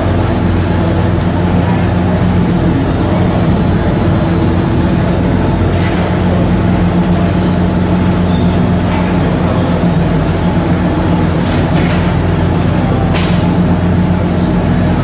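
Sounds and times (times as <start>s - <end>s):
ferry engine droning: 0.0s - 15.0s.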